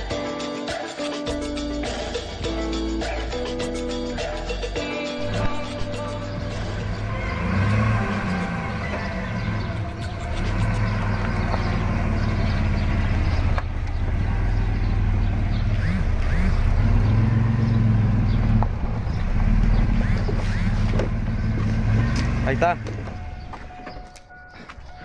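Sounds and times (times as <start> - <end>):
truck engine running: 3.8 - 25.0.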